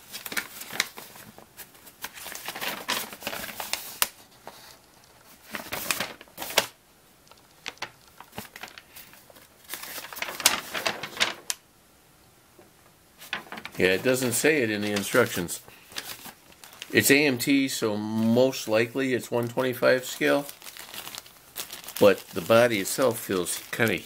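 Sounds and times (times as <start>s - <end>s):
paper rustling: 0.0s - 11.6s, 13.2s - 17.0s, 19.8s - 24.0s
plastic bag crinkling: 0.0s - 11.6s, 13.2s - 17.0s, 20.1s - 24.0s.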